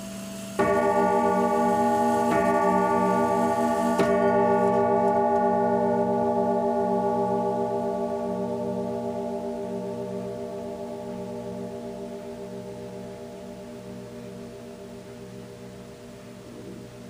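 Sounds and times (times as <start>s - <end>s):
clock chime rods striking: 0.0s - 15.8s.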